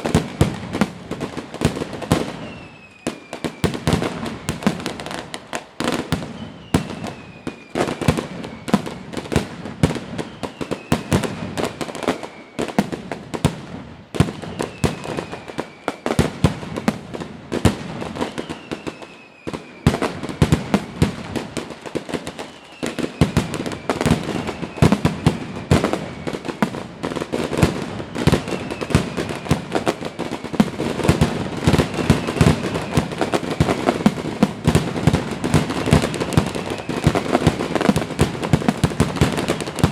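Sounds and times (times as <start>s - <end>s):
firework whistle falling in pitch: 1.6s - 13.0s, 14.2s - 17.0s, 17.9s - 38.1s.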